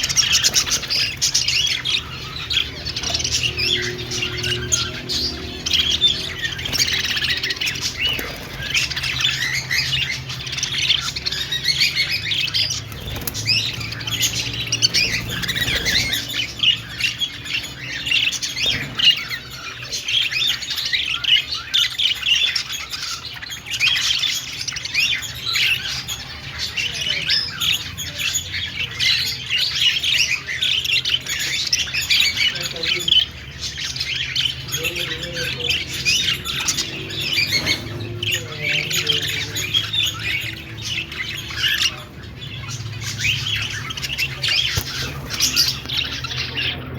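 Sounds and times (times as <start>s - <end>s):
budgerigars chirping: 0.0s - 46.9s.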